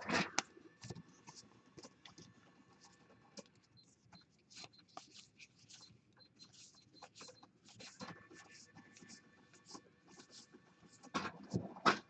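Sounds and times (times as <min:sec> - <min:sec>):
cards rustling and flicking: 0:00.0 - 0:12.0.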